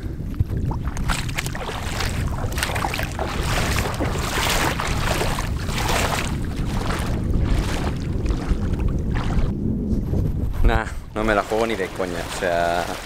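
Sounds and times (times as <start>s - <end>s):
wind rumble on microphone: 0.0s - 13.0s
feet wading through water: 0.2s - 9.5s, 11.3s - 13.0s.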